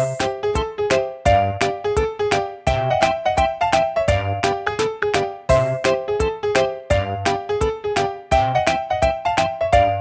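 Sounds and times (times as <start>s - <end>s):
keyboard music over steady beat: 0.0s - 10.0s.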